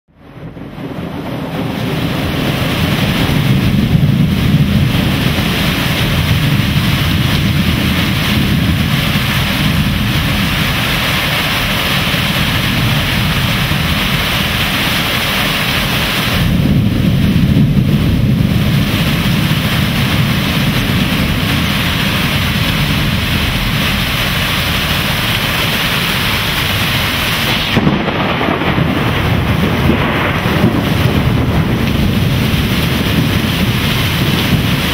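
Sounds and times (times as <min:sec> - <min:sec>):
deep thunder rumbling: 0:00.1 - 0:34.9
torrential downpour: 0:00.1 - 0:34.9.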